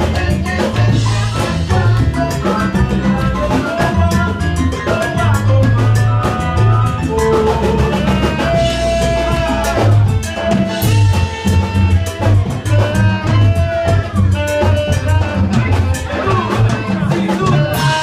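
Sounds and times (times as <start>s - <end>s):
live band playing salsa music: 0.0s - 18.0s.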